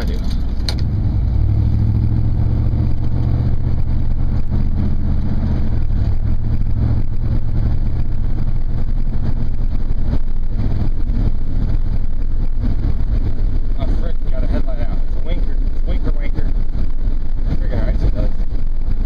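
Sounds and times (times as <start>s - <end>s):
road noise: 0.0s - 19.0s
truck engine running: 0.0s - 19.0s.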